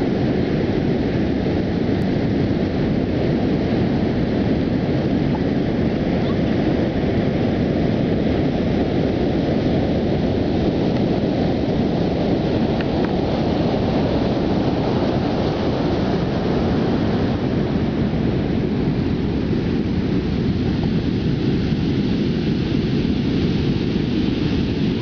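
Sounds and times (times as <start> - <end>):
ocean surf washing up: 0.0 - 25.0
wind buffeting microphone: 0.0 - 25.0.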